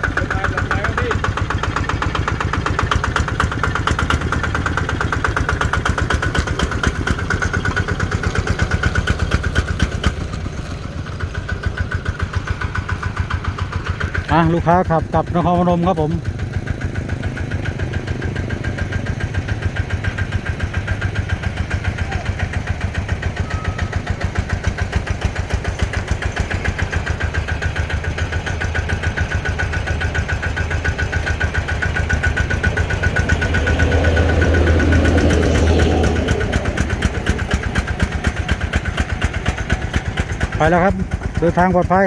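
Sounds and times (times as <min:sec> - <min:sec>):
diesel engine chugging: 0:00.0 - 0:42.0.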